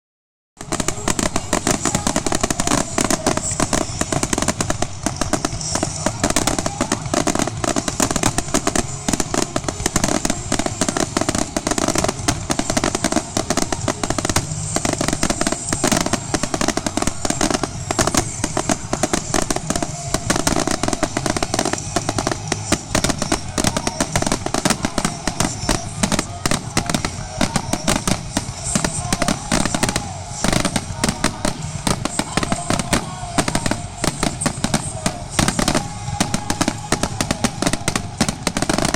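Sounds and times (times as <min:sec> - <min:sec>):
fireworks barrage of rapid bangs: 0:00.6 - 0:38.9.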